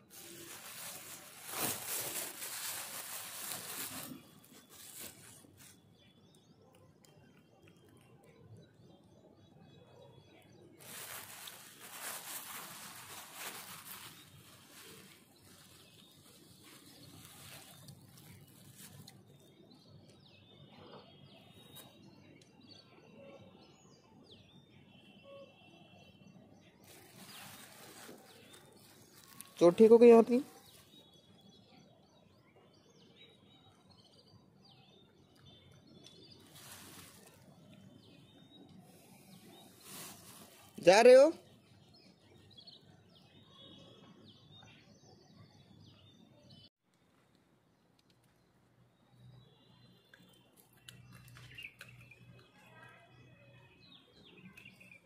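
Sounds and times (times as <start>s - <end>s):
birds chirping: 0.0s - 46.7s, 47.7s - 55.0s.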